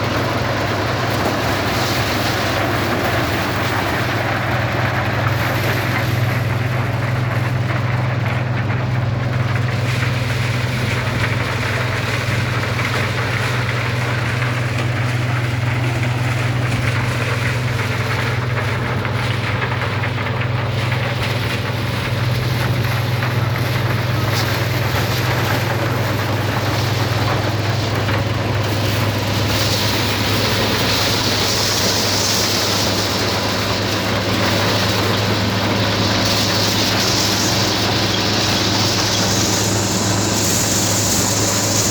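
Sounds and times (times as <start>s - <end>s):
machine clattering: 0.0s - 41.9s
tractor engine running: 0.0s - 41.9s.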